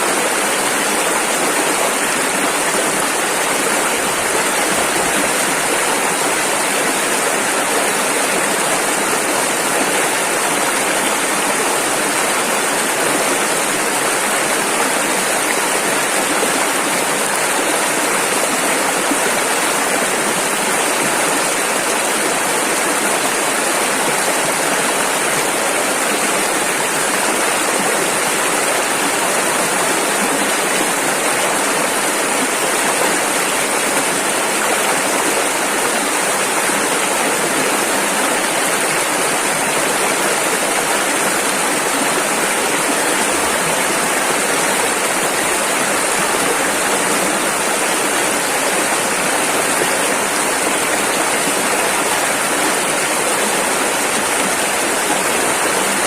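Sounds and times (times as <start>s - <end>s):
rushing river rapids: 0.0s - 56.0s.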